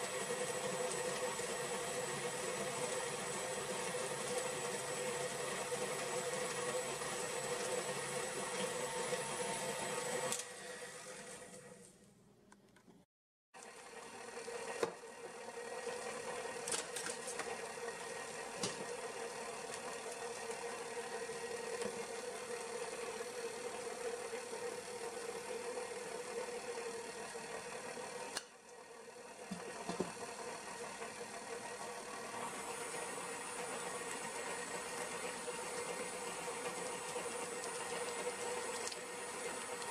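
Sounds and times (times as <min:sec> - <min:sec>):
stand mixer motor running: 0:00.0 - 0:11.7, 0:13.6 - 0:39.9.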